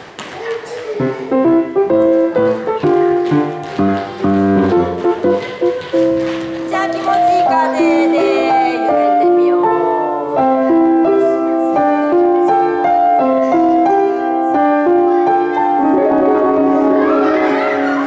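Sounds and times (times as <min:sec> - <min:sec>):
bouncy piano melody: 0:00.8 - 0:18.0.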